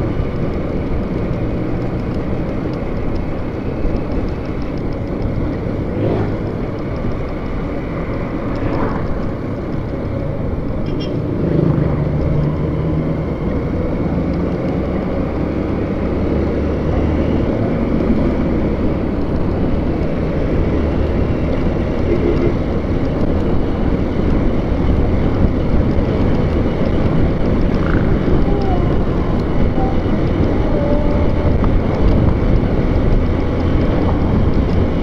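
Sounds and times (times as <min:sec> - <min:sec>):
low engine drone: 0:00.0 - 0:35.0
road and wind noise: 0:00.0 - 0:35.0.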